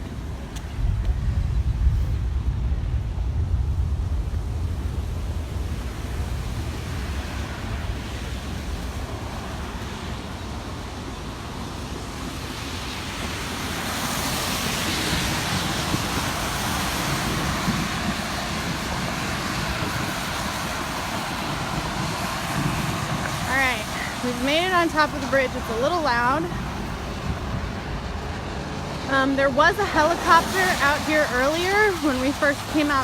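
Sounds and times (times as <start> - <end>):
traffic hissing on wet road: 0.0 - 33.0
wind rumbling on microphone: 0.0 - 33.0.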